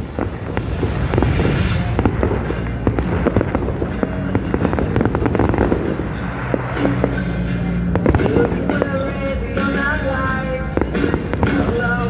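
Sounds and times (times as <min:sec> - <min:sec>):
firework shells launching: 0:00.0 - 0:12.0
fireworks bangs and crackles: 0:00.0 - 0:12.0.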